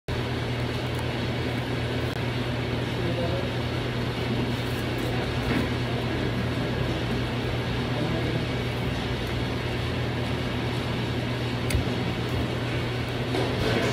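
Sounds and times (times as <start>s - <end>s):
restaurant room tone hum: 0.1s - 13.9s.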